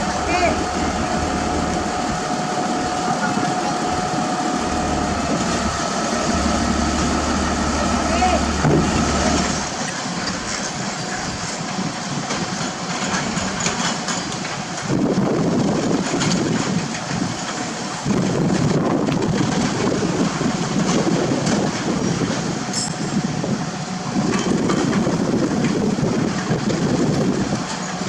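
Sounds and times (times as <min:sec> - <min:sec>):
heavy machinery rumbling and clattering: 0:00.0 - 0:28.0.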